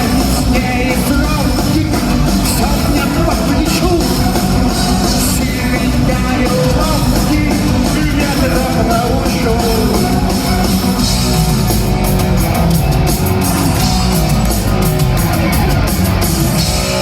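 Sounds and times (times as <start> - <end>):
instrumental rock band: 0.0 - 17.0.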